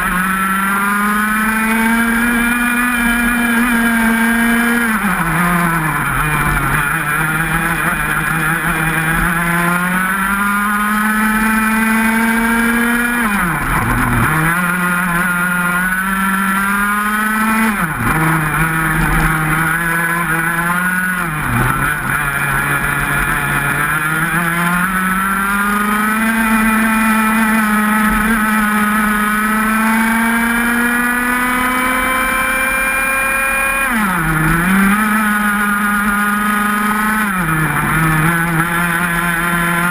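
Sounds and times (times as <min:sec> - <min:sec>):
kart engine at full throttle: 0:00.0 - 0:39.9.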